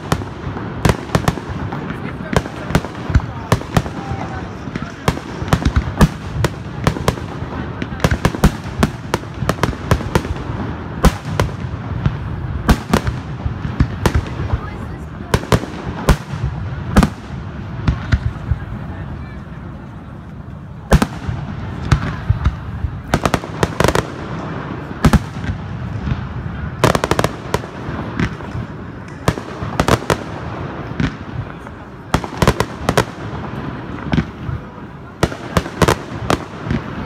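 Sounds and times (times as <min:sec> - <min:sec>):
fireworks bursting in loud bangs: 0:00.0 - 0:19.4, 0:20.8 - 0:37.0.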